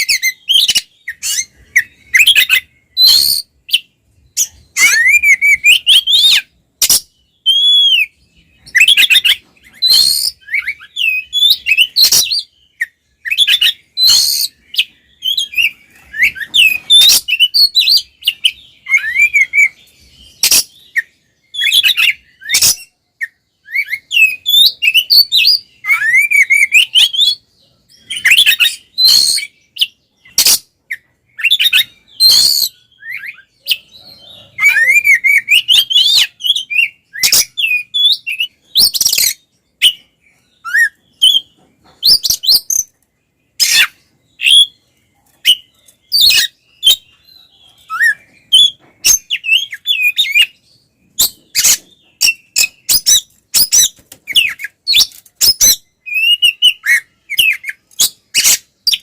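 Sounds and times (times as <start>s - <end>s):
bird singing whistles and chatter: 0.0s - 59.0s.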